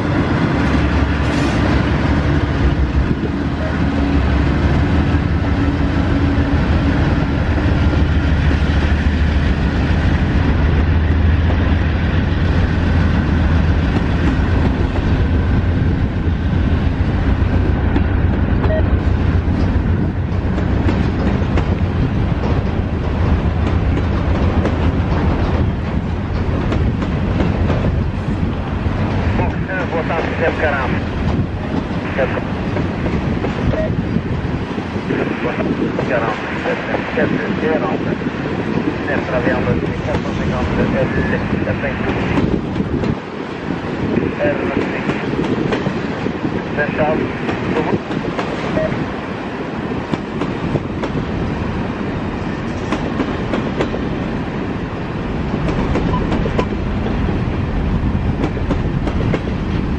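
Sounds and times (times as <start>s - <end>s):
diesel locomotive engines droning: 0.0s - 59.9s
freight cars rumbling: 0.0s - 59.9s.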